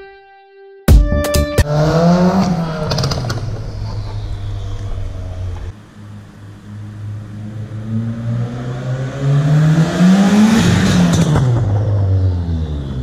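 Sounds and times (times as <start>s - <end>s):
car exhaust under hard throttle: 1.6s - 13.0s
exhaust crackles: 1.6s - 13.0s.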